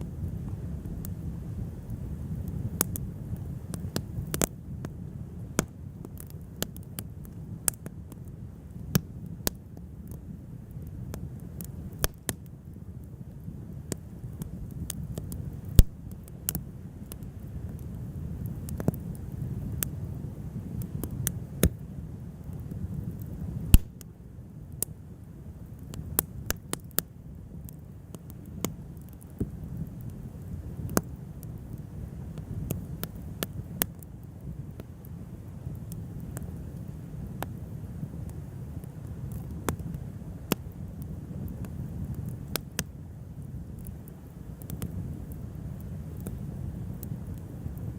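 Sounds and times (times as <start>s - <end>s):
low fire rumble: 0.0s - 47.9s
wood fire crackling and popping: 0.0s - 47.9s.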